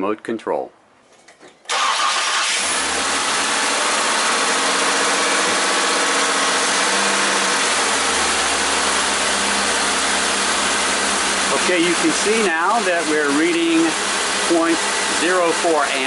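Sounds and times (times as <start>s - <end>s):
car engine idling: 1.7s - 16.0s.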